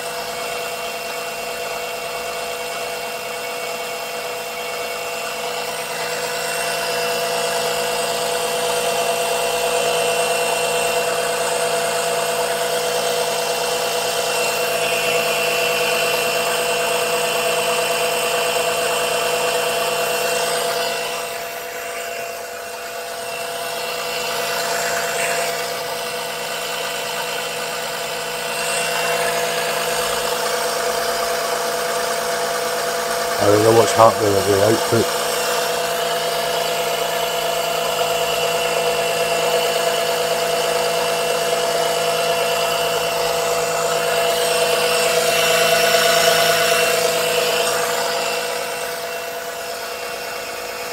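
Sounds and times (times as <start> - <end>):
electric pump motor humming: 0.0 - 50.9.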